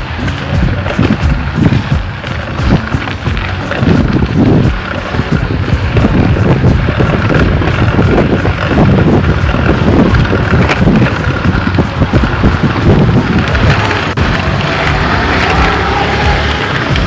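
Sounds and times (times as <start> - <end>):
bike knocks and rattles: 0.0 - 17.0
low rumble: 0.0 - 17.0
wind buffeting microphone: 0.0 - 17.0.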